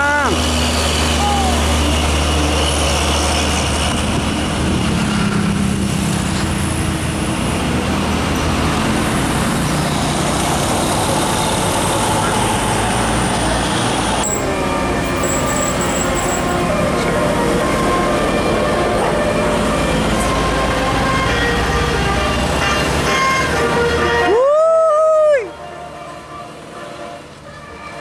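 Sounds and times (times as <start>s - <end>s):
diesel lorries labouring uphill: 0.0s - 28.0s
road traffic noise: 0.0s - 28.0s.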